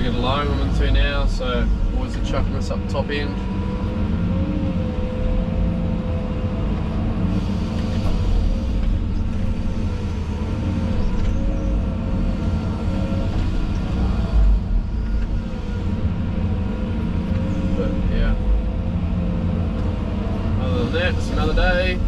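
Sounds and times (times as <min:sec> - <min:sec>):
heavy diesel engine under load: 0:00.0 - 0:22.0
wavering whine: 0:00.0 - 0:22.0.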